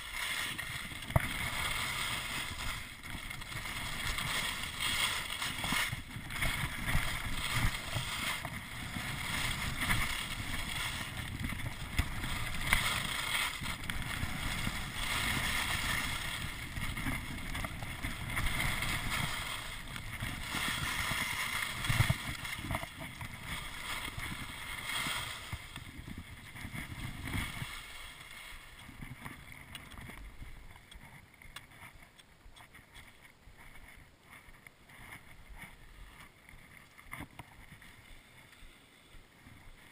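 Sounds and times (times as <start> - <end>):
skis scraping on snow: 0.0 - 39.9
wind rumbling on microphone: 0.0 - 39.9.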